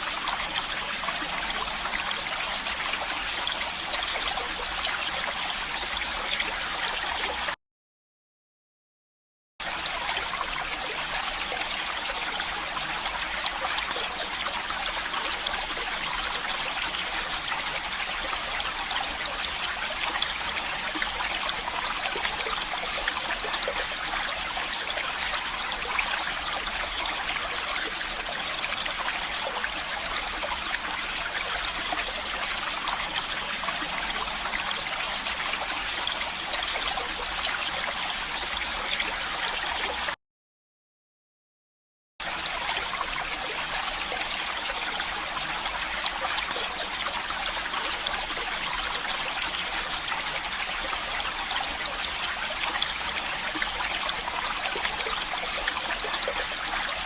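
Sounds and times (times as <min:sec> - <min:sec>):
stream of running water: 0:00.0 - 0:07.6, 0:09.6 - 0:40.2, 0:42.2 - 0:57.0.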